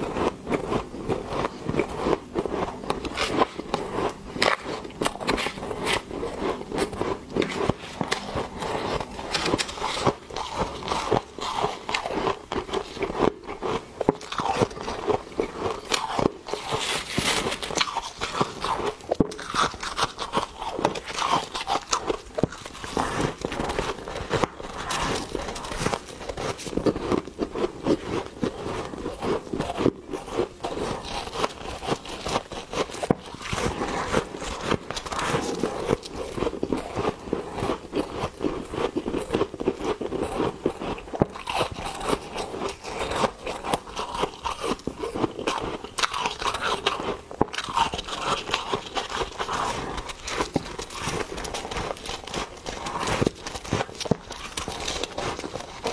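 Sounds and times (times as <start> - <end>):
chewing crunchy frost: 0.0 - 55.9.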